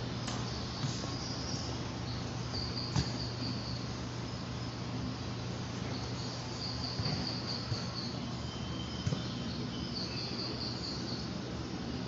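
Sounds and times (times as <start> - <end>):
crickets chirping: 0.0 - 12.0
steady low hum: 0.0 - 12.0.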